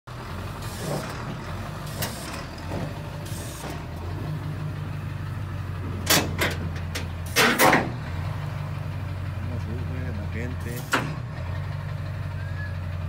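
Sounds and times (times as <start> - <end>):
truck engine idling: 0.1 - 13.0.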